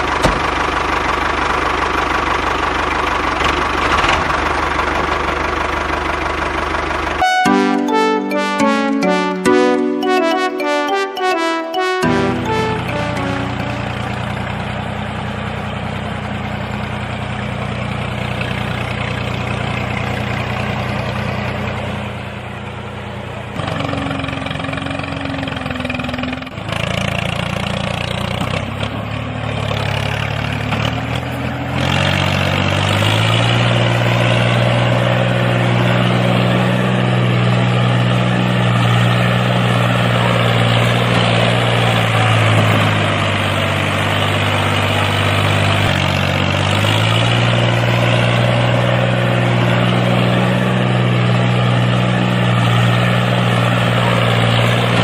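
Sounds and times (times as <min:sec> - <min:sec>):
tractor engine idling: 0:00.0 - 0:08.1, 0:12.2 - 0:55.0.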